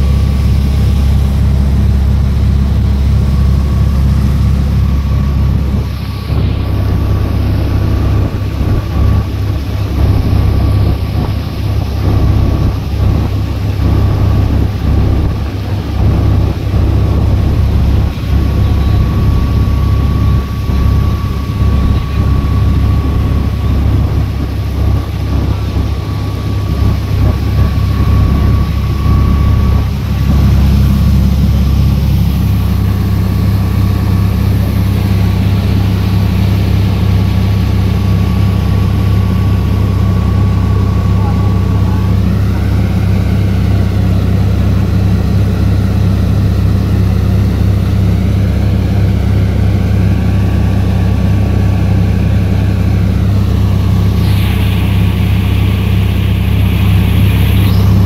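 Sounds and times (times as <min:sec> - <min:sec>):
boat engine running: 0:00.0 - 0:58.0
thin steady whine: 0:00.0 - 0:58.0.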